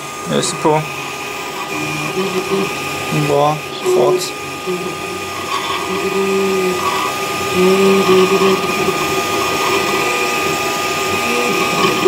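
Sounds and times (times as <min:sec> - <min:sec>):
steady high hum: 0:00.0 - 0:12.0
stepper motors whining: 0:00.0 - 0:12.0.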